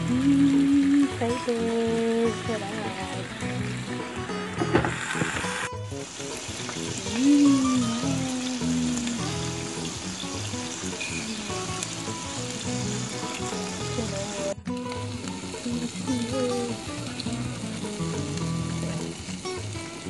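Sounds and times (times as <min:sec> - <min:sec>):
background music: 0:00.0 - 0:20.0
meat sizzling on grill: 0:00.0 - 0:20.0.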